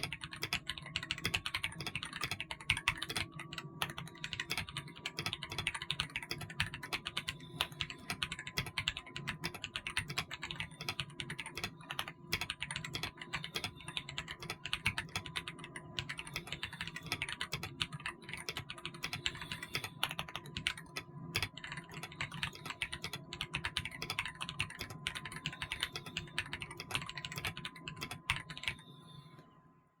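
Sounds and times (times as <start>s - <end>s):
fast mechanical keyboard typing: 0.0s - 28.8s.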